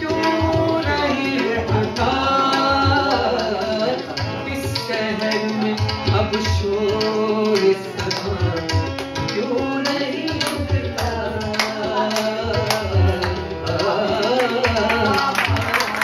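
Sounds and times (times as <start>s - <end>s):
tabla playing rhythm: 0.0s - 16.0s.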